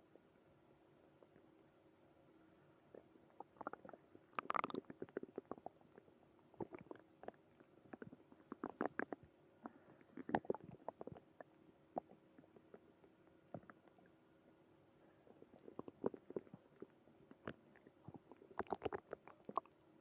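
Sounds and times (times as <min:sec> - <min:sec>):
stomach growling and gurgling: 0:02.9 - 0:14.2, 0:15.0 - 0:19.8.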